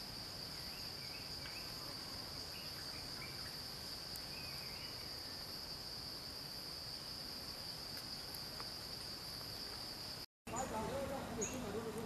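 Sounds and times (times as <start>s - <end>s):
faint insect chirps: 0.0s - 12.0s
insects droning: 0.0s - 12.0s.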